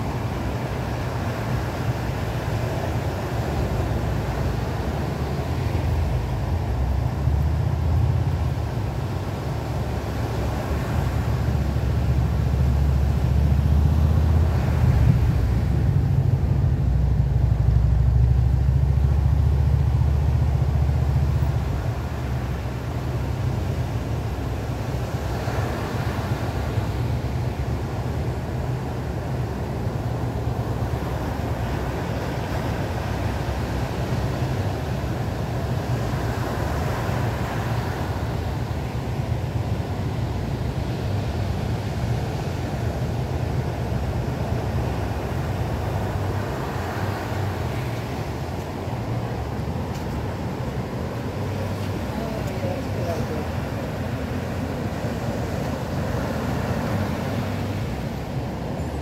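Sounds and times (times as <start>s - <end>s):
ocean surf on beach: 0.0s - 59.0s.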